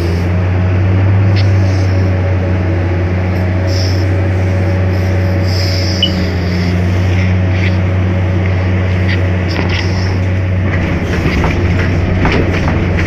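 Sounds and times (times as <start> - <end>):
high machine whines: 0.0 - 12.2
diesel engine running: 0.0 - 13.0.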